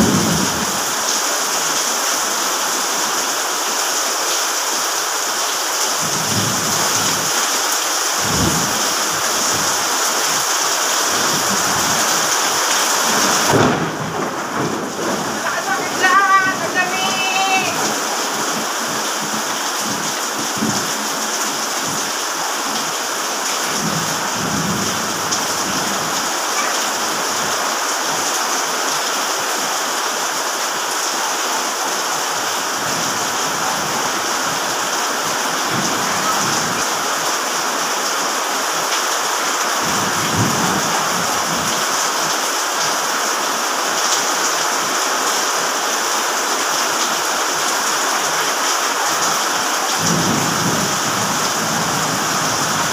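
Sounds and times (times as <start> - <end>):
steady rain pouring: 0.0 - 52.9.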